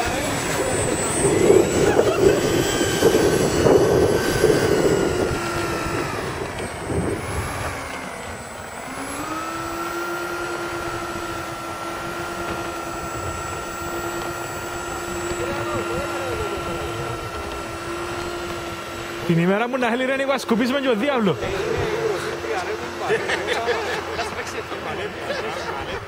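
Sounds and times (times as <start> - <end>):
model jet engines whining: 0.0 - 26.0.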